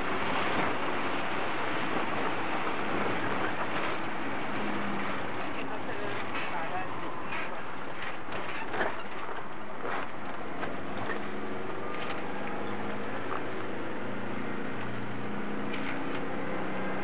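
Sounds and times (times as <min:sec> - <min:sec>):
low engine drone: 0:00.0 - 0:17.0
road noise inside van: 0:00.0 - 0:17.0.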